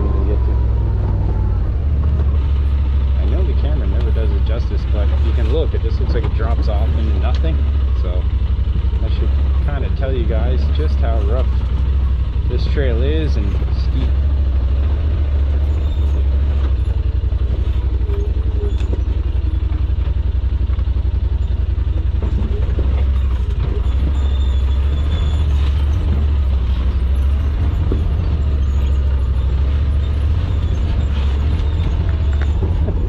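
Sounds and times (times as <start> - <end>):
engine running at low revs: 0.0 - 33.0.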